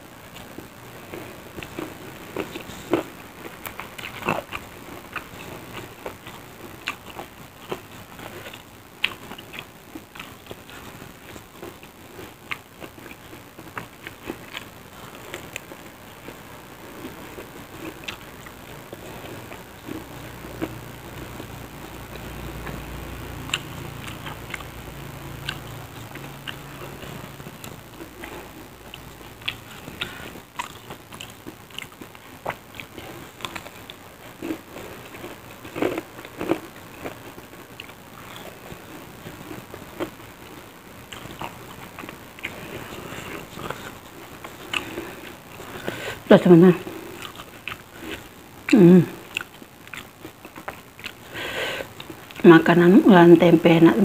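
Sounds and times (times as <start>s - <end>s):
low steady hum: 0.0s - 54.0s
chewing and lip-smacking: 1.1s - 15.7s, 17.0s - 22.8s, 23.4s - 24.7s, 25.4s - 40.2s, 41.1s - 45.9s, 47.2s - 48.3s, 49.3s - 51.2s.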